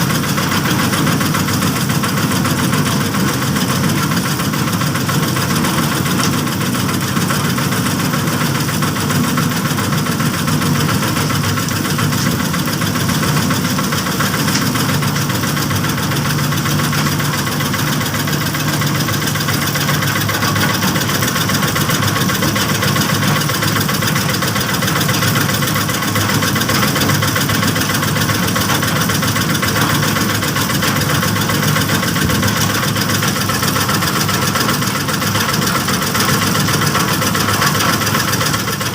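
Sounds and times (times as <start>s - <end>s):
small engine running steadily: 0.0s - 38.9s.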